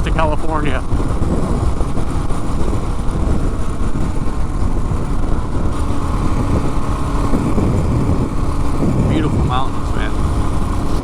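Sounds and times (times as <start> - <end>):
motorcycle engine running: 0.0 - 11.0
road and riding noise: 0.0 - 11.0.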